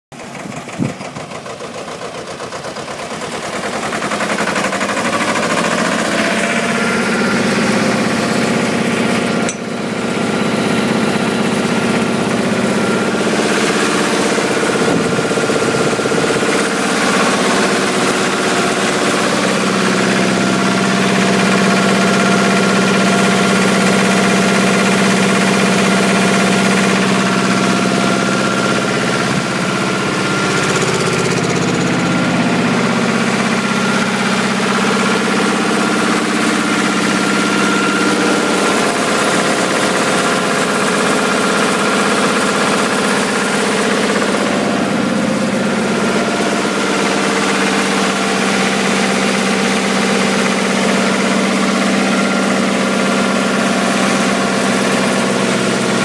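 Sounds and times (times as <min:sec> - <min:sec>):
diesel generator engine running: 0:00.1 - 0:56.0.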